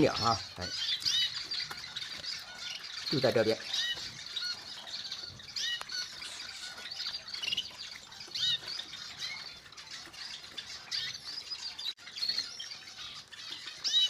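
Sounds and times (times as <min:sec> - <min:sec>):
canaries chirping: 0:00.0 - 0:14.0.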